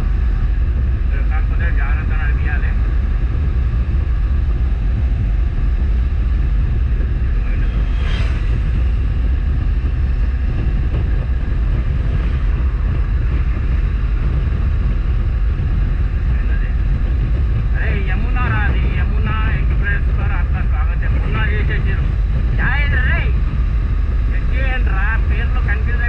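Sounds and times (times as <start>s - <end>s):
motorcycle engine rumble: 0.0s - 25.2s
wind buffeting microphone: 0.0s - 26.0s.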